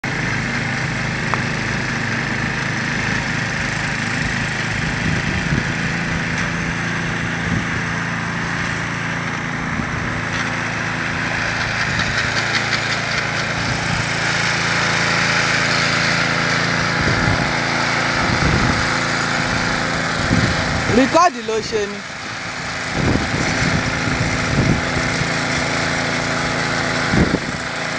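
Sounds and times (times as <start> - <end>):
small engine running: 0.0 - 27.9.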